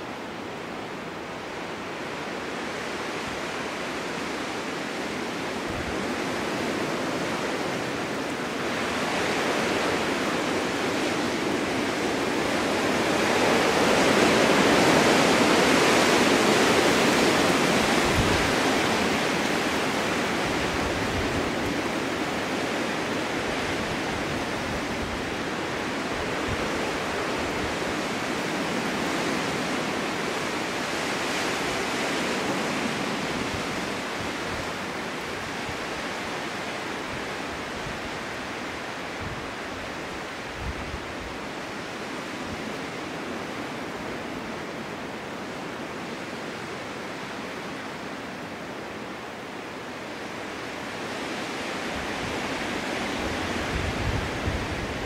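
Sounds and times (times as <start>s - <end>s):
snowstorm wind rushing: 0.0s - 55.0s.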